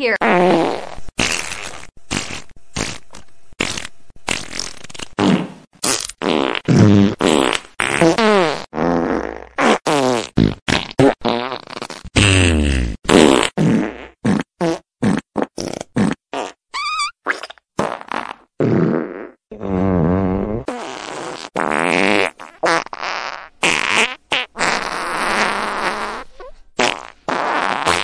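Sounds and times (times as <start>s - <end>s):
farts: 0.0s - 28.0s.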